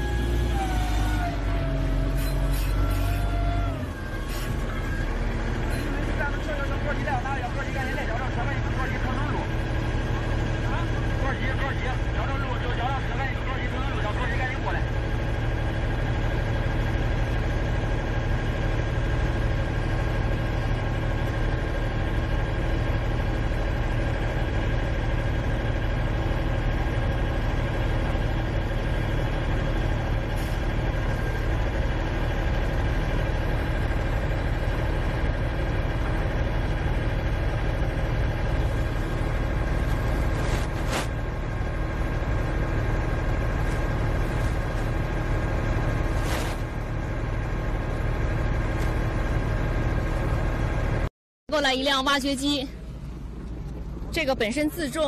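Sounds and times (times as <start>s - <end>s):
heavy machinery engines humming: 0.0s - 55.0s.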